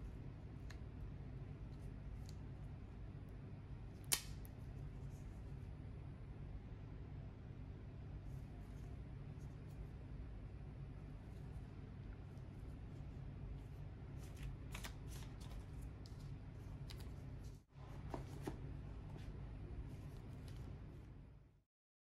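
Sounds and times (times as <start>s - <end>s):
low background hum: 0.0s - 21.7s.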